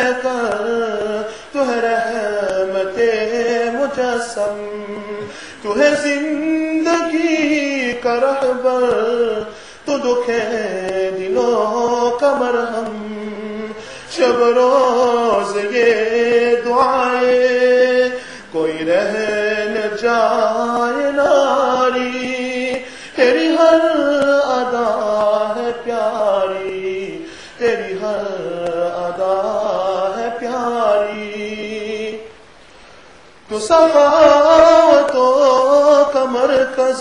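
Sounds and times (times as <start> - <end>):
man singing devotional song: 0.0 - 32.4, 33.4 - 37.0.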